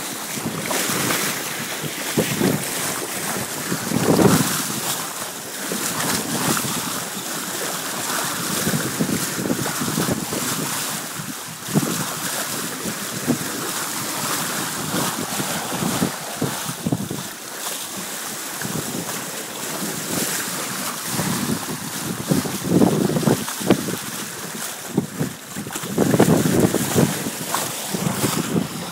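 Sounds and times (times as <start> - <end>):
water rushing along boat bow: 0.0 - 28.9
wind buffeting microphone: 0.0 - 28.9.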